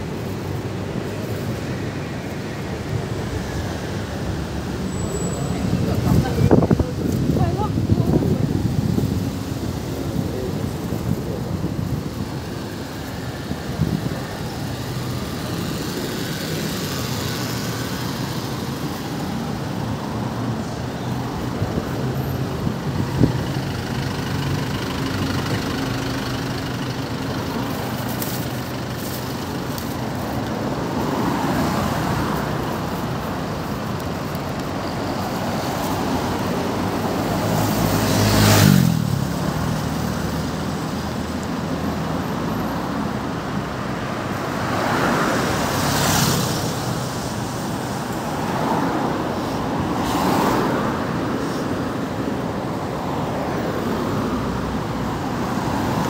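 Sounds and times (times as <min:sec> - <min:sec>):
city street traffic: 0:00.0 - 0:56.0.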